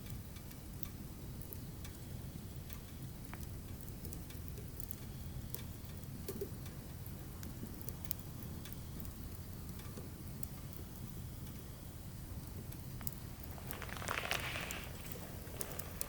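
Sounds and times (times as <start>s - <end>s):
fire crackling and popping: 0.0s - 16.0s
fire rumbling: 0.1s - 16.0s.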